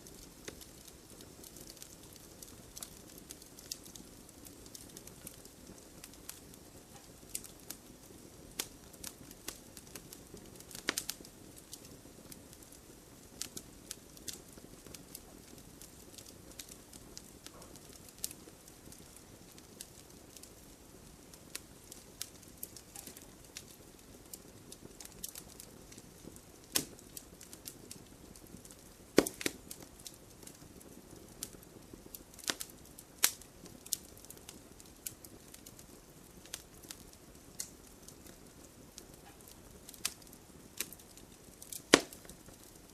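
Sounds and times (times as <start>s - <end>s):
campfire hissing: 0.0s - 42.9s
fire crackling and popping: 0.0s - 42.9s.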